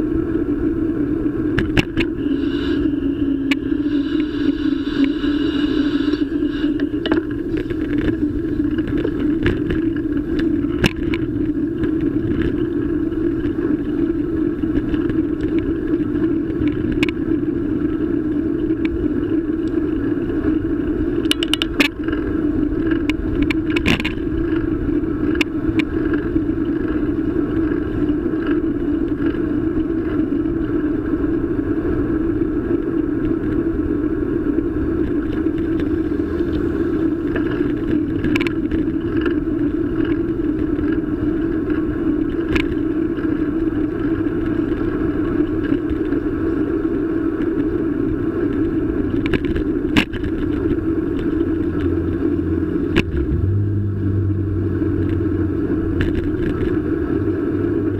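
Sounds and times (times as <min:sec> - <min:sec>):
wind and road rumble: 0:00.0 - 0:57.9.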